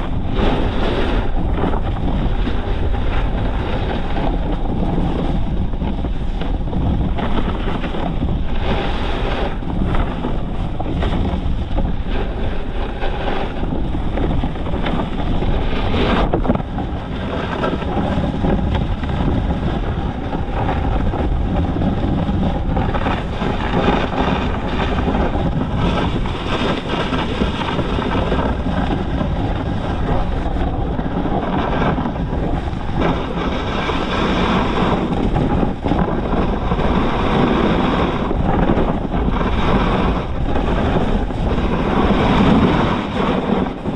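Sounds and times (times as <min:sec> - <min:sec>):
snowboard scraping over snow: 0:00.0 - 0:43.9
wind buffeting microphone: 0:00.0 - 0:43.9.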